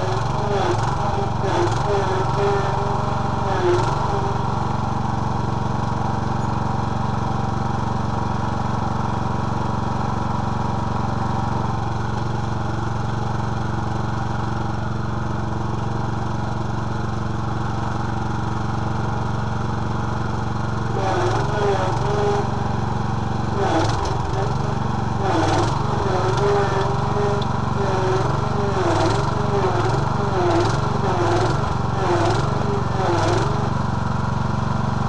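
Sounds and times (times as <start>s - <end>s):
lawn tractor engine running: 0.0s - 35.0s.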